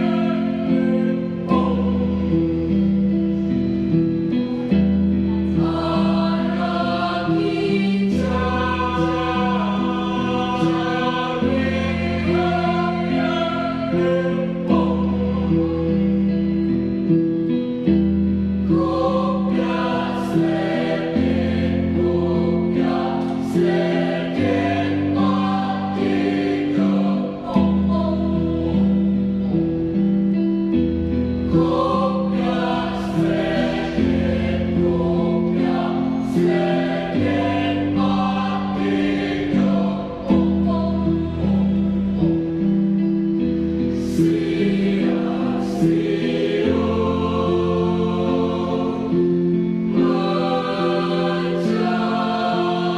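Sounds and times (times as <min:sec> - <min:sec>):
choir singing in parts: 0:00.0 - 0:52.9.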